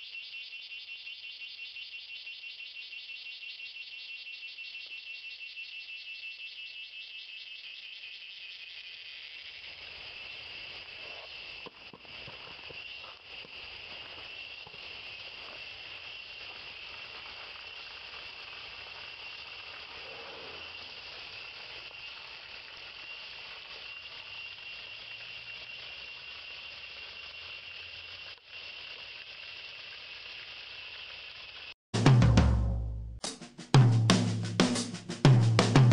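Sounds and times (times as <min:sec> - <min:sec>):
forest insects droning: 0:00.0 - 0:31.8.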